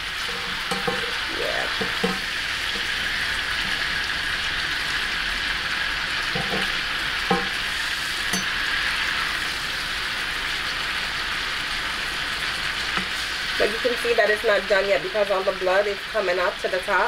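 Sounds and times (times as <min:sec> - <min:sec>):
steak sizzling in pan: 0:00.0 - 0:17.0.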